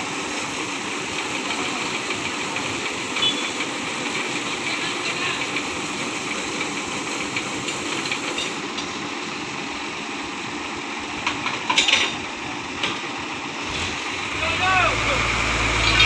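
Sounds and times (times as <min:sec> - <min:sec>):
truck engine running: 0:00.2 - 0:16.0.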